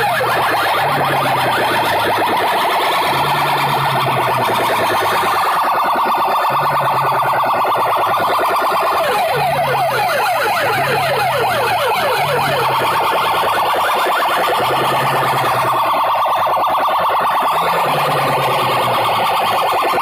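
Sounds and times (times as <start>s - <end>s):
warbling siren tone: 0.0s - 20.0s.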